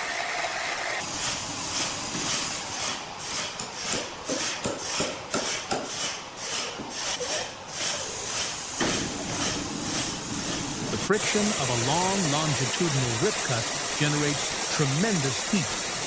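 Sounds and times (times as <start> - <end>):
steady noisy background: 0.8 - 16.0.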